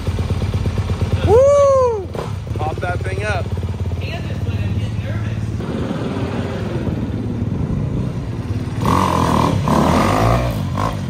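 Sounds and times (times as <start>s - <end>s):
dirt bike engine revving: 0.7s - 11.0s.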